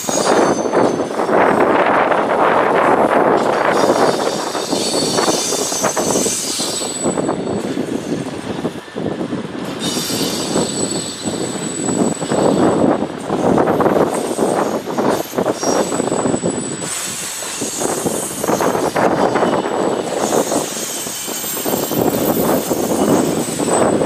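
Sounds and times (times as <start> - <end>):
high-pitched wheel squeal: 0.0 - 1.8, 3.6 - 8.2, 9.8 - 12.8, 14.0 - 24.0
train wheels rumbling on rail: 0.0 - 24.0.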